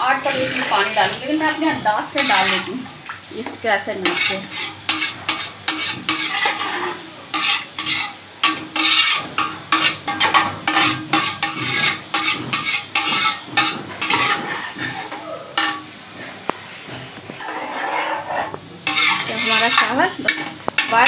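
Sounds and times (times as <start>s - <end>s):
spoon stirring rice in metal pot: 0.0s - 16.7s, 17.4s - 21.0s.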